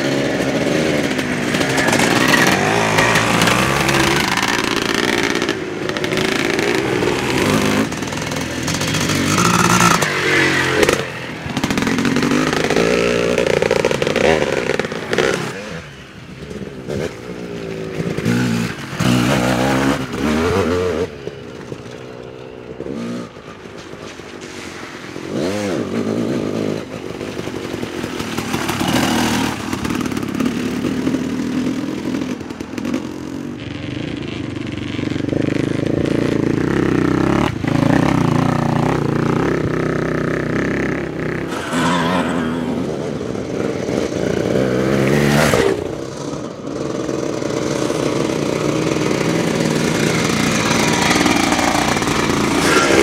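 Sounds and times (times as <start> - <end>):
dirt bikes revving past: 0.0 - 53.0.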